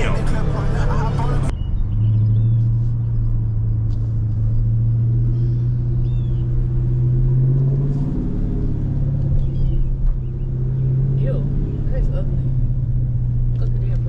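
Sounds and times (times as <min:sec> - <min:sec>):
car exhaust drone: 0:00.0 - 0:14.0.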